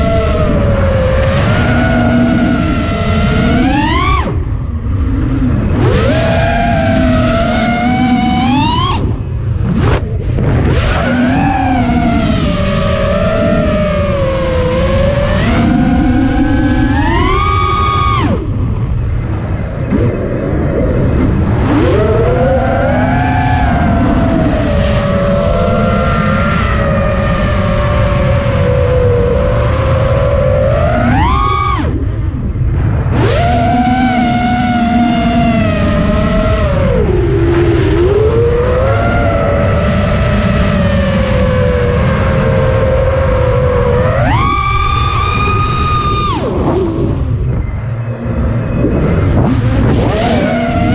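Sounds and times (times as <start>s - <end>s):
electric motors whining: 0.0s - 50.9s
wind buffeting microphone: 0.0s - 50.9s.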